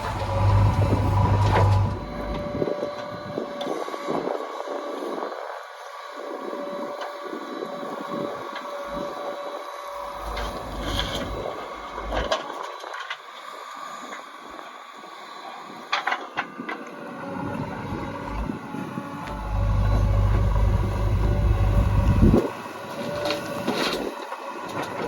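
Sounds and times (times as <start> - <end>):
backhoe loader engine humming: 0.0 - 25.0.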